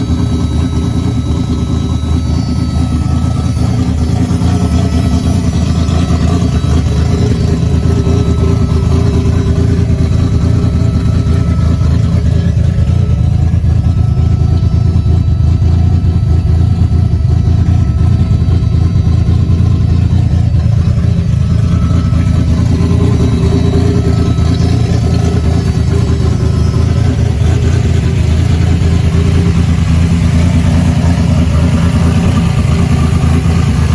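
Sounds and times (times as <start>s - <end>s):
racing engine idling: 0.0s - 33.9s.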